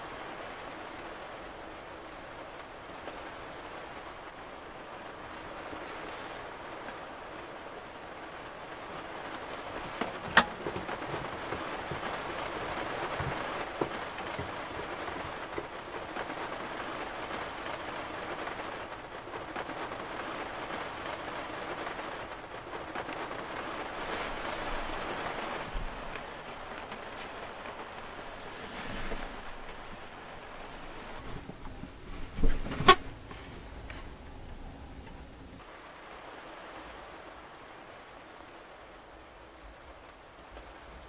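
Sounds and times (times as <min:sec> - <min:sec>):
rain on camper shell: 0:00.0 - 0:41.0.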